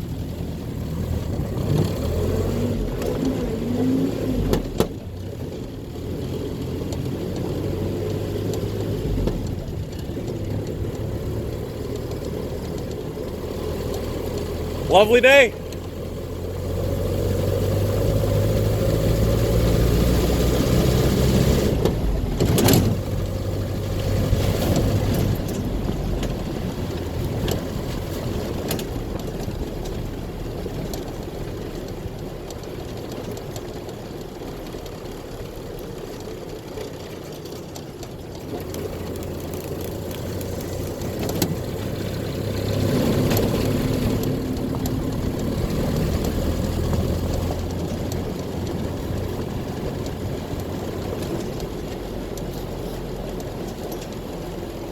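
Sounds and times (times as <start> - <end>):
car engine running: 0.0 - 54.9.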